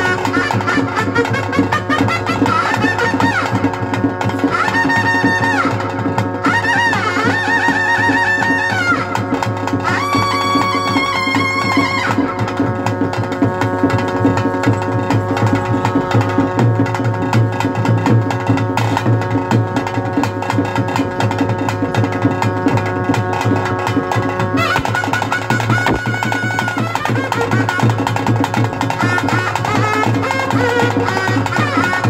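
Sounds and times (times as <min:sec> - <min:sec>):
drums beaten fast: 0:00.0 - 0:32.0
wind instrument long held notes: 0:00.0 - 0:32.0.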